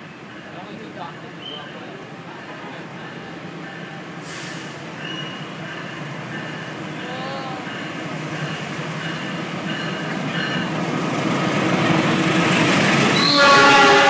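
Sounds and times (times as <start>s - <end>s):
train engine and wheels rumbling: 0.0s - 14.0s.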